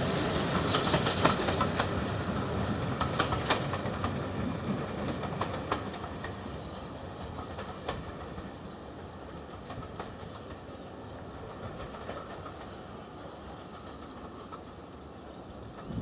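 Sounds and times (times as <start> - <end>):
passenger train rumbling: 0.0 - 16.0
train wheel clicks: 0.5 - 2.2, 2.8 - 14.9.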